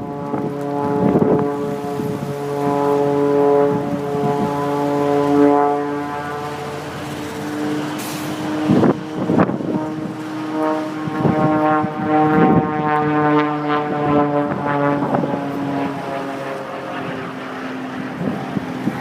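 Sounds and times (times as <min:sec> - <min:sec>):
propeller plane engine droning: 0:00.0 - 0:19.0
wind buffeting microphone: 0:00.0 - 0:19.0.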